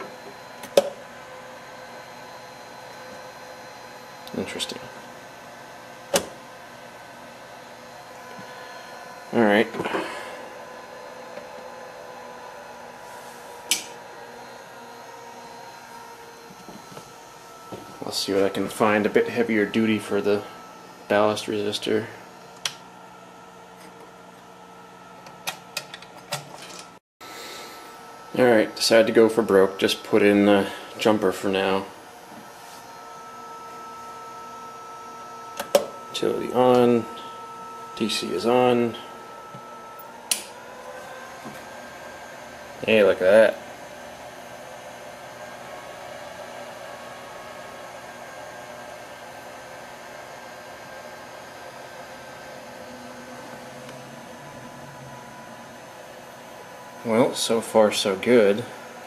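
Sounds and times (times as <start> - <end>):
electrical hum: 0.0 - 59.0
fan whooshing hiss: 1.2 - 22.9, 27.2 - 59.0.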